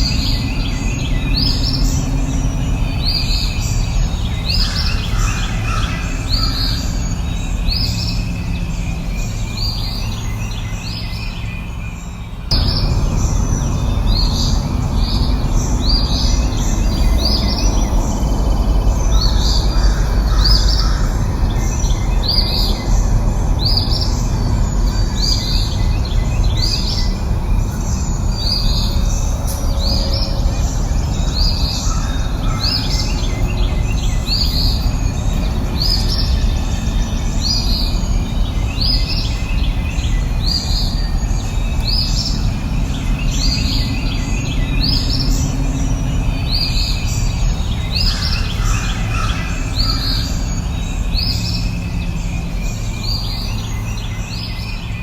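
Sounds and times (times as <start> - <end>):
fainter lower bird calls: 0.0 - 55.0
low rushing background noise: 0.0 - 55.0
songbird high call: 0.0 - 55.0.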